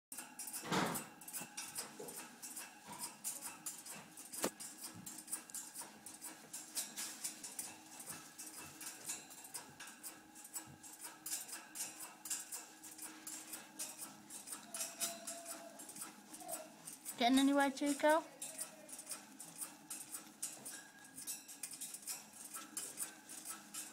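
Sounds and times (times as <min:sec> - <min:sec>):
parrot beak rattling metal cage: 0:00.2 - 0:23.9.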